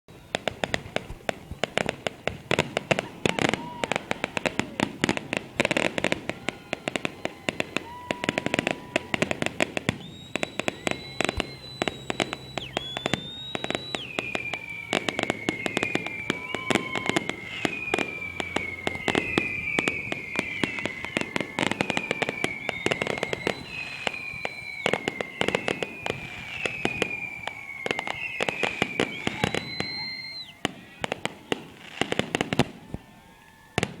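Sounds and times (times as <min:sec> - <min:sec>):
firecrackers popping and crackling: 0:00.1 - 0:34.0
firework whistles sliding downward: 0:00.1 - 0:34.0.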